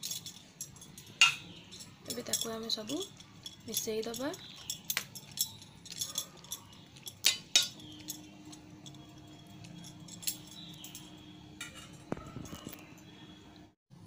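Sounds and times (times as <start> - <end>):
metal spoon clinking against bowl: 0.0 - 13.0.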